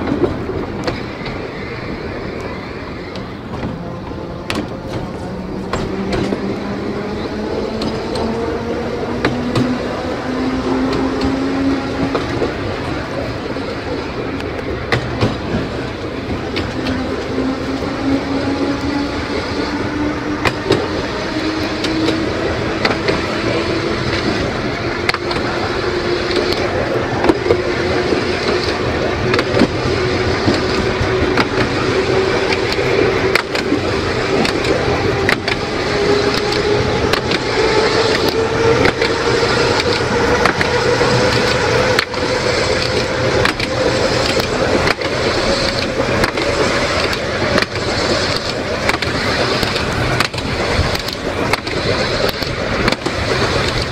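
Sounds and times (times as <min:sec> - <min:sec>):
rolling rumble: 0:00.0 - 0:53.9
tram motor whine rising: 0:00.0 - 0:53.9
wheels clicking on rails: 0:00.0 - 0:53.9.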